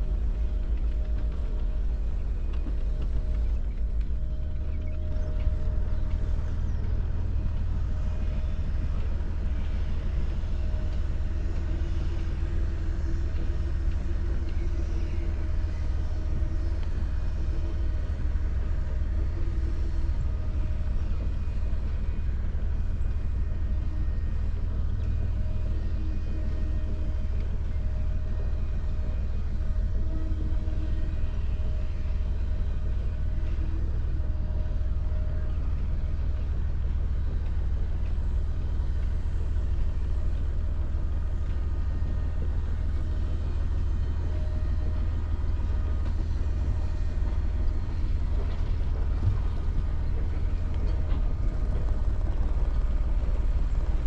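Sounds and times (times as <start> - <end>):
boat engine low rumble: 0.0 - 54.0.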